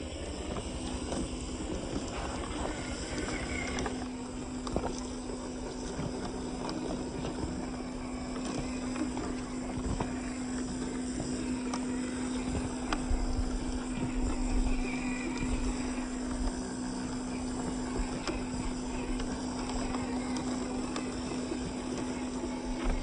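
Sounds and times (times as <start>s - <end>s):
rc car motor hum: 0.0s - 23.0s.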